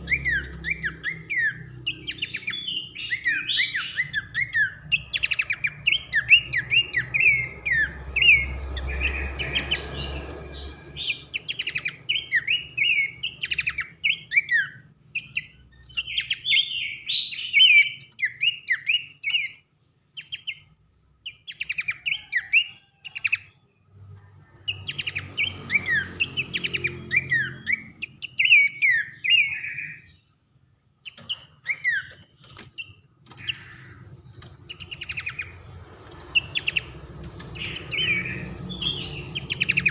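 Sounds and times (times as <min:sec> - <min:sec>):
bird singing rapid whistles: 0:00.0 - 0:19.6, 0:21.3 - 0:23.5, 0:24.7 - 0:30.2, 0:31.0 - 0:34.0, 0:34.6 - 0:39.9.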